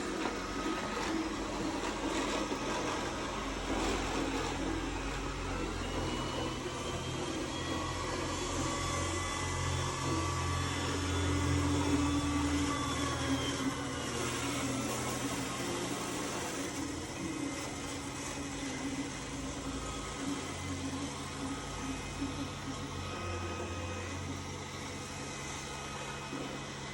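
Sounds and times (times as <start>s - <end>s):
robot vacuum grinding: 0.0s - 26.9s.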